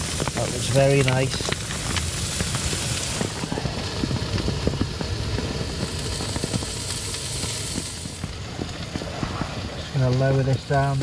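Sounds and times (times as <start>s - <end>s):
low rumble: 0.0s - 11.0s
rain on a tent flysheet: 0.0s - 11.0s.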